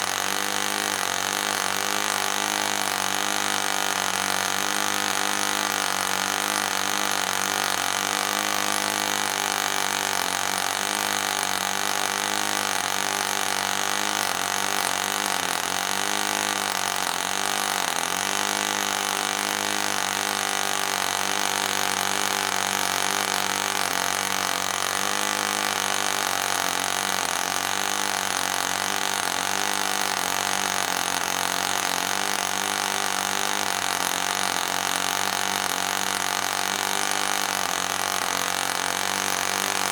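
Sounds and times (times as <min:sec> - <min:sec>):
model glow engine running: 0:00.0 - 0:39.9.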